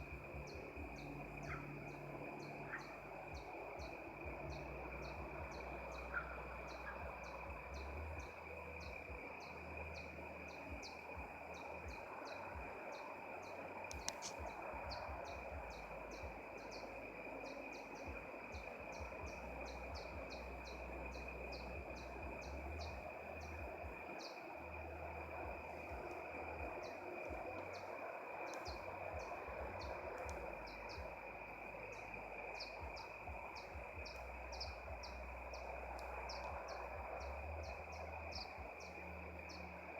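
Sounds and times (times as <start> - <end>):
high-pitched hum: 0.0 - 39.9
low rumble: 0.0 - 39.9.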